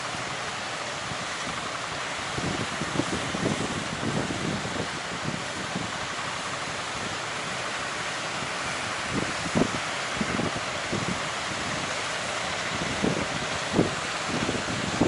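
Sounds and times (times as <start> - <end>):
sea waves washing: 0.0 - 15.0
wind: 0.0 - 15.0
wind buffeting microphone: 1.0 - 7.6, 8.3 - 15.0.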